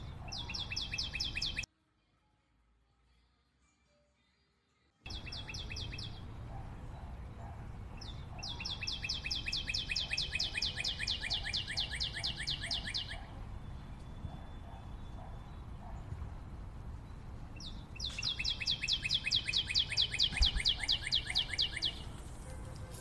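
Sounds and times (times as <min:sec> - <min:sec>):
bird chirping: 0:00.0 - 0:01.7, 0:05.1 - 0:22.6
low background noise: 0:01.1 - 0:23.0.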